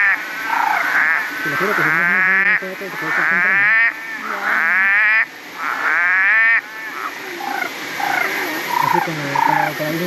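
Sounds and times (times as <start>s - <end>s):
frogs calling: 0.0s - 10.0s.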